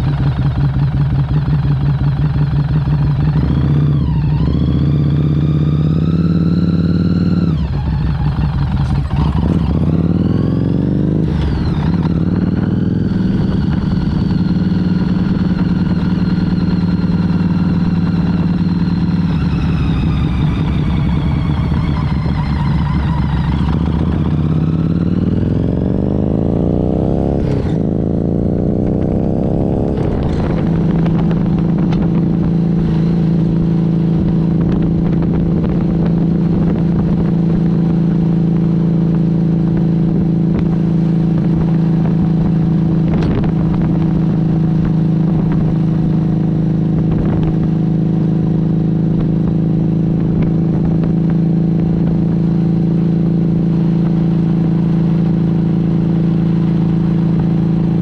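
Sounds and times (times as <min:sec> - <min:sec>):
motorcycle engine revving through gears: 0:00.0 - 0:58.0.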